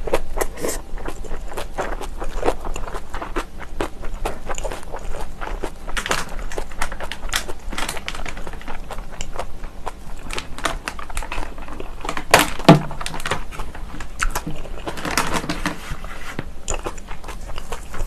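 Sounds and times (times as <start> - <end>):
wet crunching chewing: 0.0 - 15.5, 16.6 - 18.0.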